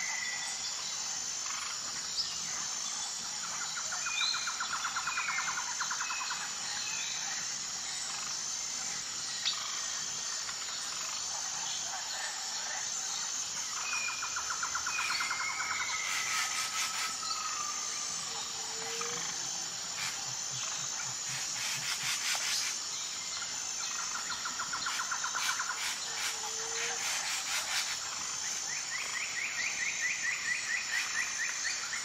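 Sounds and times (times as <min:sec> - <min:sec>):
insect chorus: 0:00.0 - 0:32.0.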